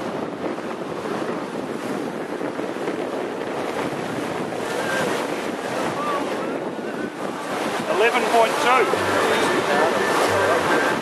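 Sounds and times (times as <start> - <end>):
water rushing past hull: 0.0 - 11.0
wind buffeting microphone: 0.0 - 11.0.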